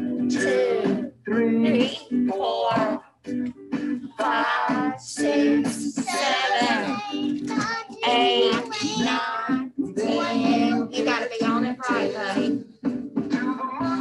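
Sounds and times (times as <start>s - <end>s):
voices singing: 0.0s - 3.2s, 3.8s - 14.0s
upbeat rock and roll music: 0.0s - 14.0s.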